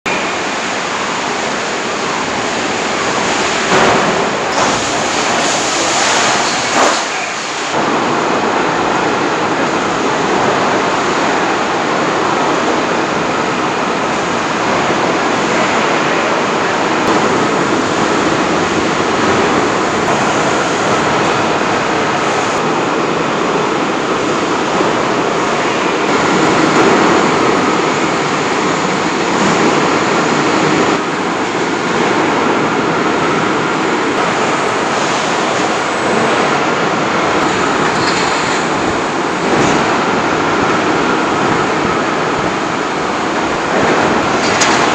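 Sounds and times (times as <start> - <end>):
factory machinery roar: 0.0 - 44.9.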